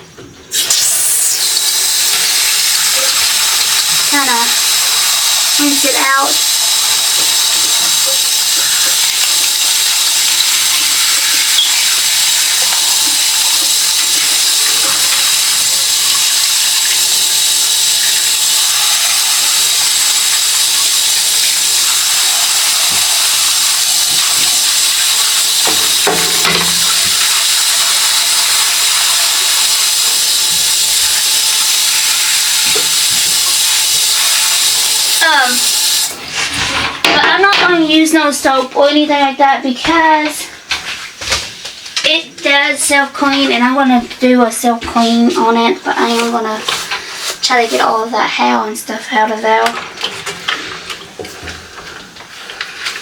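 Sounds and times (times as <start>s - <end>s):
shower sprayer hissing water: 0.0s - 53.0s.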